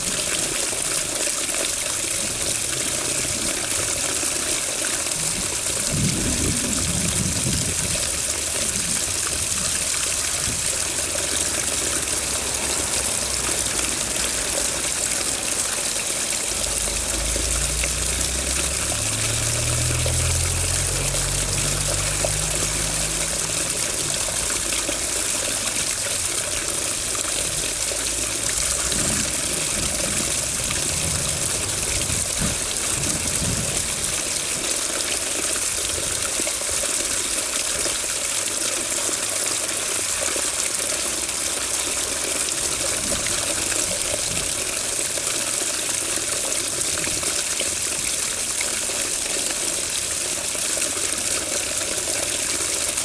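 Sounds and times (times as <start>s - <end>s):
water running: 0.0s - 53.0s.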